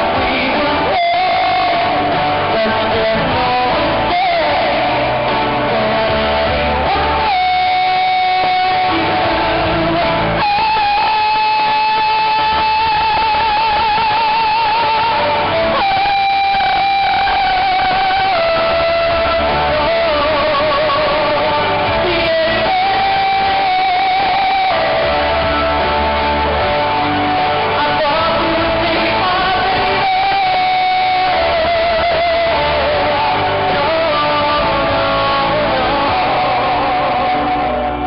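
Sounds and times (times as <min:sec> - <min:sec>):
live pop-rock band through speakers: 0:00.0 - 0:38.0.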